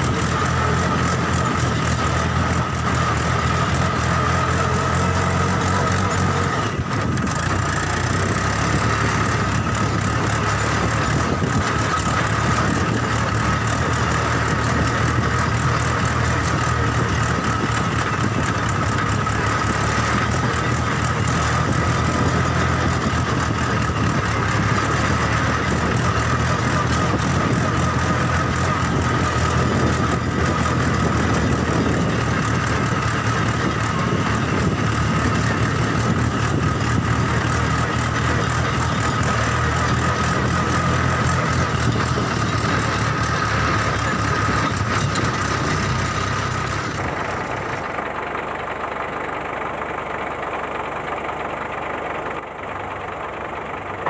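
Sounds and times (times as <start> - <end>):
low engine-like drone: 0.0 - 54.0.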